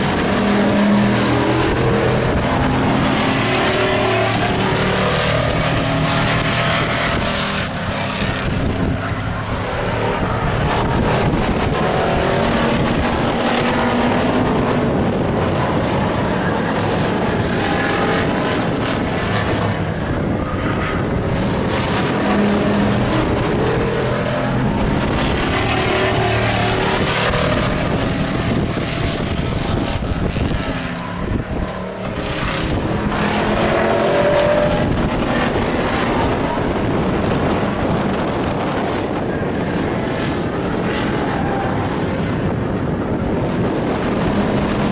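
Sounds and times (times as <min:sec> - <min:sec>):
racing truck engines: 0:00.0 - 0:44.9.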